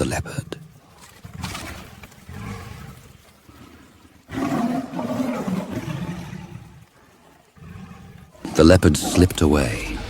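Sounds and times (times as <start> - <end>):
big cat growling and roaring: 1.2 - 10.0.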